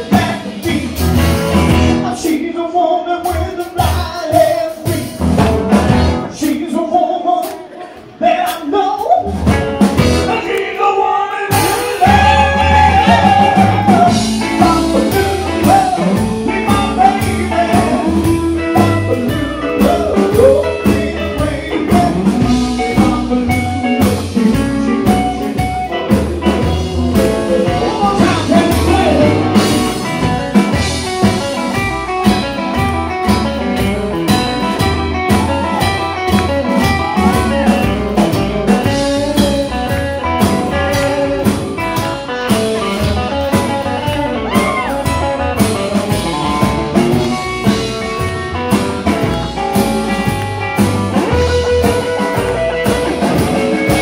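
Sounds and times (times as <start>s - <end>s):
drum kit: 0.0s - 54.0s
rock and roll band playing: 0.0s - 54.0s
upright bass: 0.0s - 54.0s.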